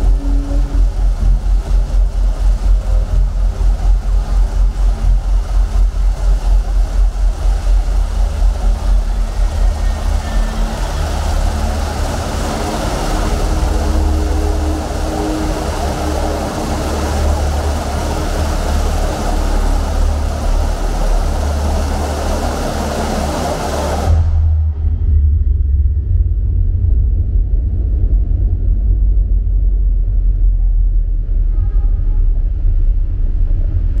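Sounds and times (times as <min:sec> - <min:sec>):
dense hissing wash: 0:00.0 - 0:30.1
deep electronic bass drone: 0:00.0 - 0:34.0.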